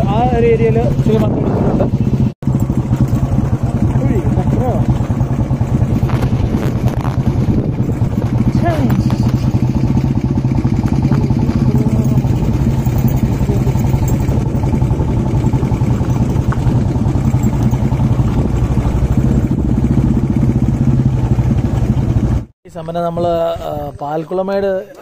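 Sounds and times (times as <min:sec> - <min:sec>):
motorcycle engine running: 0:00.0 - 0:22.5.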